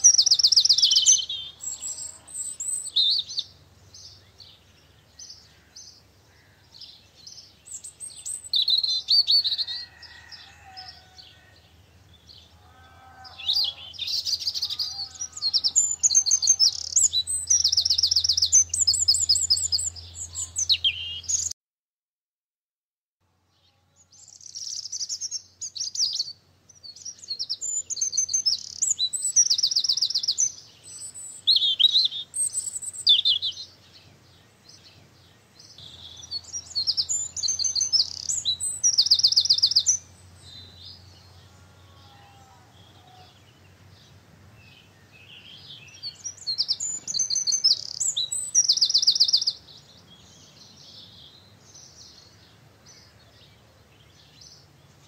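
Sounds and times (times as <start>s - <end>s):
songbird singing trilling phrases: 0.0s - 21.6s, 23.6s - 55.0s.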